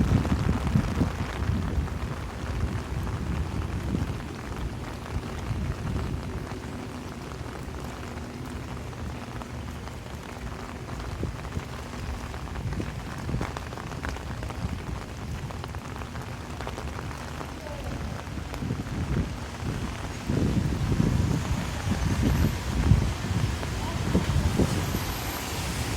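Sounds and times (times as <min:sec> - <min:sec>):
heavy rain falling: 0:00.0 - 0:25.9
raindrops pattering on an umbrella: 0:00.0 - 0:25.9.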